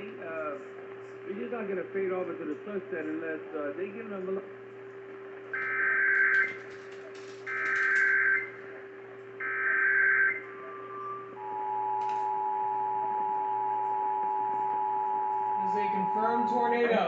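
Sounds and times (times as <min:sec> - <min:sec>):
radio whistle and hum: 0:00.0 - 0:17.0.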